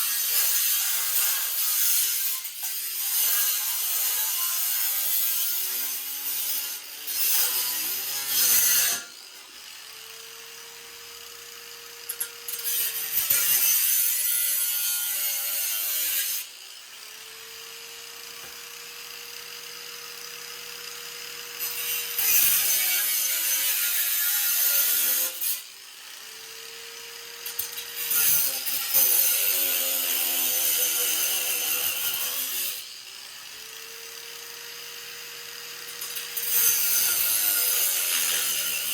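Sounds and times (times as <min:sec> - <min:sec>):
saw cutting metal tubing: 0:00.0 - 0:38.9.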